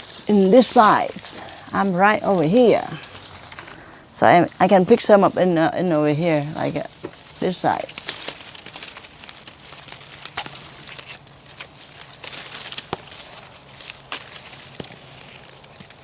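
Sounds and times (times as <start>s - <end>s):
leaves and branches rustling: 0.0s - 16.0s.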